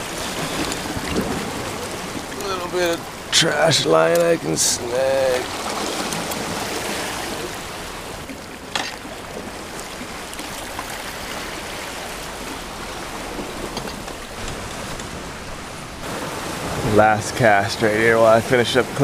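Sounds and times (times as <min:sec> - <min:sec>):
ocean surf on rocks: 0:00.0 - 0:19.0.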